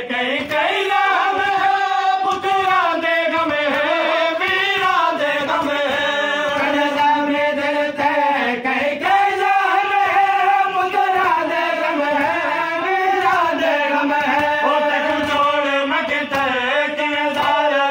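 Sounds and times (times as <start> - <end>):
person chanting: 0.0 - 17.9.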